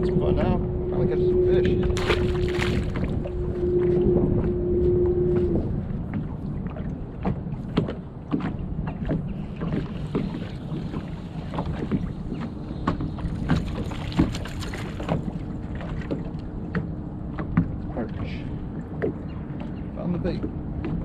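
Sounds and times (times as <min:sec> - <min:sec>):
boat low rumble: 0:00.0 - 0:21.0.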